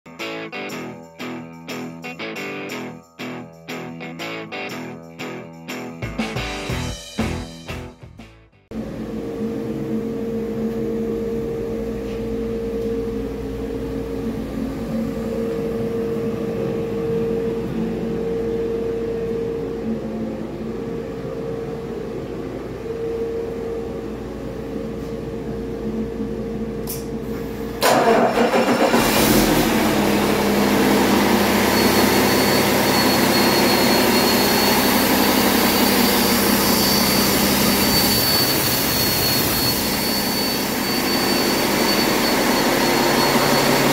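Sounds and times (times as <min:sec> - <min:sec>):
diesel engine running: 0:08.7 - 0:43.9
turbocharger whine: 0:08.7 - 0:43.9.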